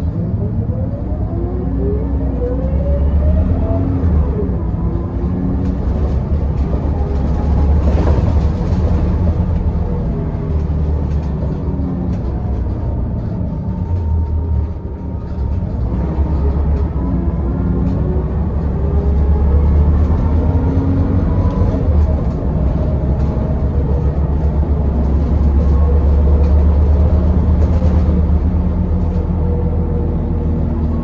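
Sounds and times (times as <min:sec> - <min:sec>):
bus diesel engine droning: 0:00.0 - 0:31.0.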